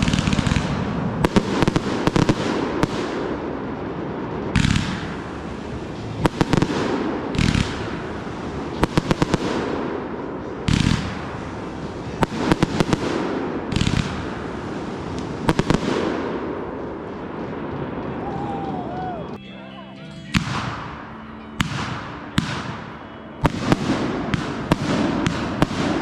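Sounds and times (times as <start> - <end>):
firework booms: 0.0 - 19.4, 20.3 - 26.0
firework cracks: 0.0 - 19.4, 20.2 - 26.0
firework crackling: 0.0 - 26.0.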